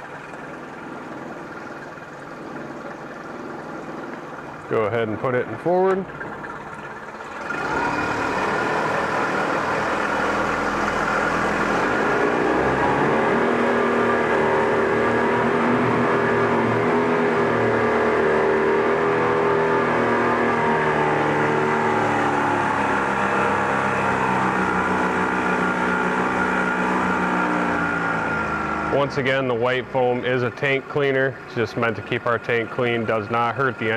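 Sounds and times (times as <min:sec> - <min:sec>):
outboard engine running: 0:00.0 - 0:33.9.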